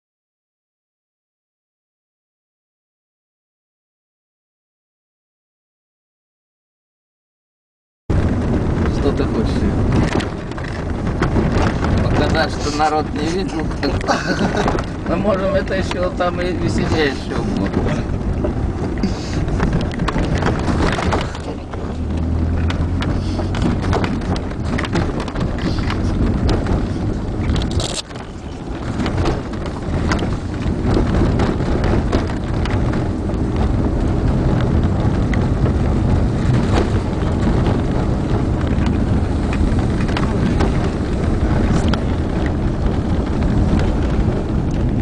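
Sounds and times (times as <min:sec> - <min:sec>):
road and tyre rumble: 0:08.1 - 0:45.0
wheels knocking in potholes: 0:08.1 - 0:45.0.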